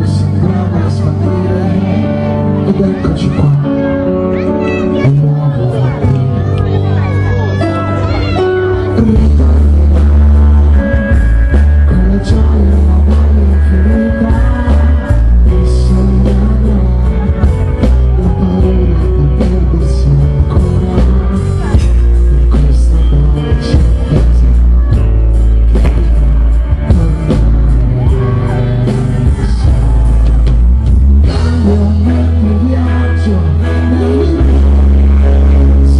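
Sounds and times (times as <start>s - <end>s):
live band playing: 0.0s - 35.9s
man singing: 0.0s - 35.9s
booming bass: 5.0s - 35.9s.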